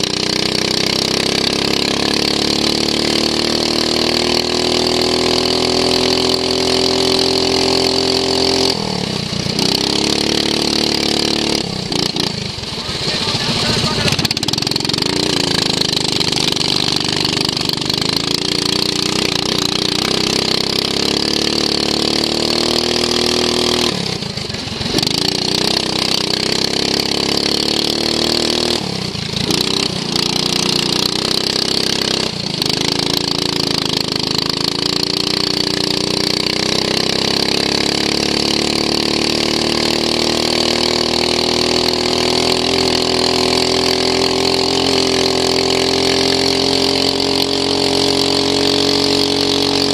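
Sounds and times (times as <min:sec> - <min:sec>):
lawn mower engine running hard: 0:00.0 - 0:49.9.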